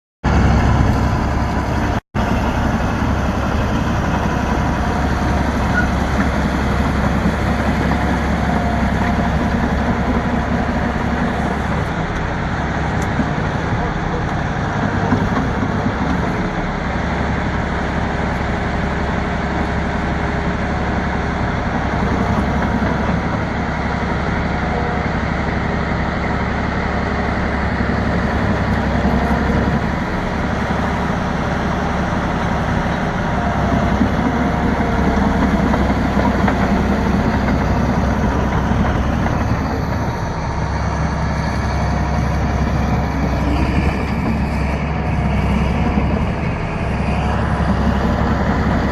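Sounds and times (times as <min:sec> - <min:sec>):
bulldozer diesel engine running: 0:00.2 - 0:48.9.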